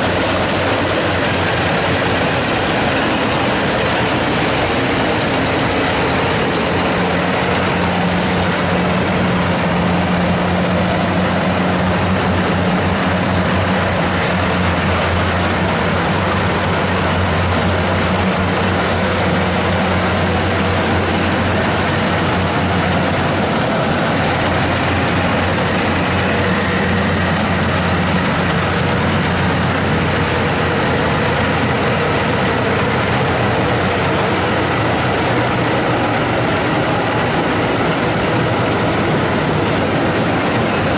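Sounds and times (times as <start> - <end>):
combine harvester engine hum: 0.0 - 40.9
loud mechanical noise: 0.0 - 40.9.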